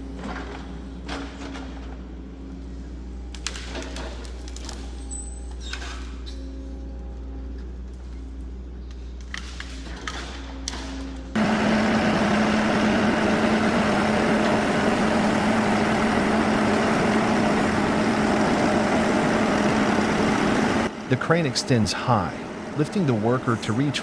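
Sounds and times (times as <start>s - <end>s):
heavy machine engine droning: 0.0s - 24.0s.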